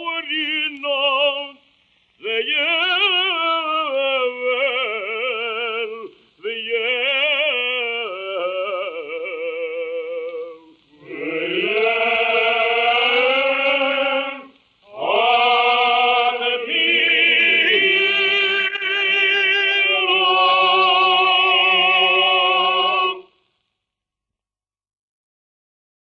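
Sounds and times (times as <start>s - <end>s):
man singing with vibrato: 0.0s - 23.4s.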